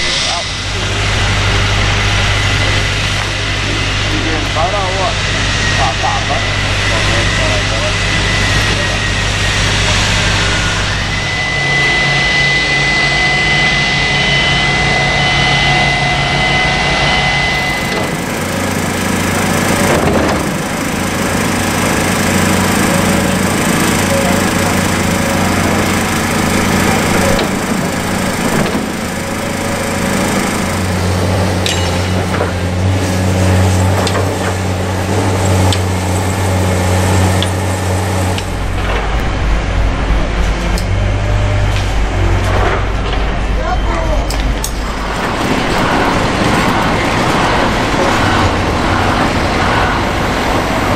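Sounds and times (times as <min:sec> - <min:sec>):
heavy machinery engine hum: 0:00.0 - 0:50.9
high whine: 0:00.0 - 0:50.9.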